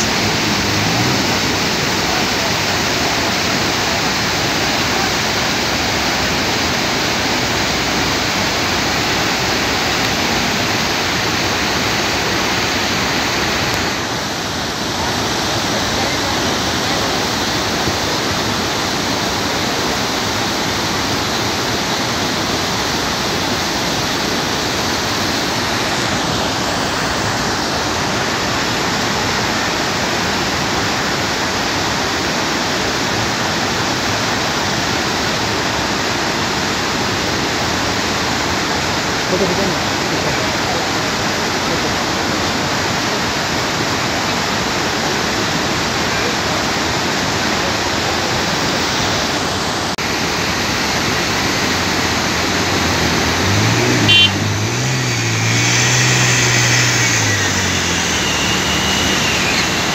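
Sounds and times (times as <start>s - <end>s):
river rushing over boulders: 0.0s - 59.9s.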